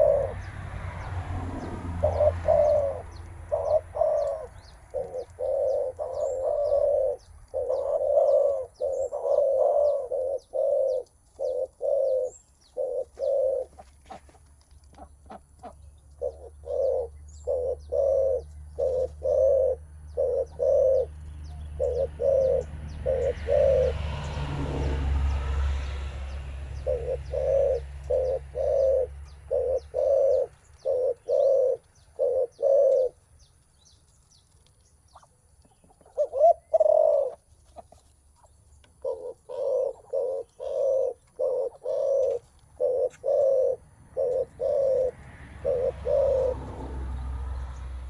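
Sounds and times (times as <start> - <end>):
dove cooing: 0.0 - 33.3, 35.2 - 48.0.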